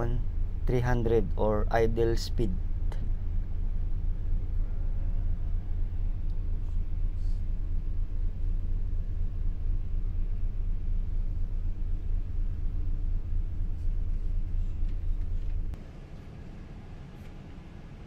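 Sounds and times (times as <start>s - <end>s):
faint steady hum: 0.0s - 18.0s
muffled diesel engine rumble: 0.0s - 18.0s.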